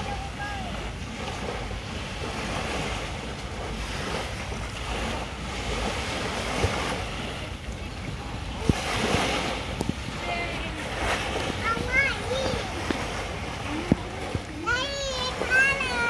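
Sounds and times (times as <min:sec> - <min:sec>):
waves washing on sandy shore: 0:00.0 - 0:16.0
wind rumbling on microphone: 0:00.0 - 0:16.0.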